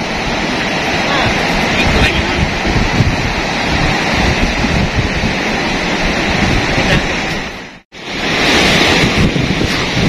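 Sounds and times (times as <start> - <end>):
surf breaking on reef: 0.0 - 10.0
wind on microphone: 0.0 - 10.0.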